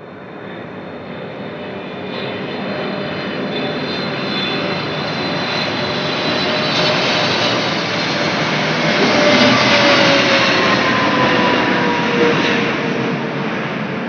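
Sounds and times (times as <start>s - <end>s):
jet airliner roaring overhead: 0.0s - 14.0s.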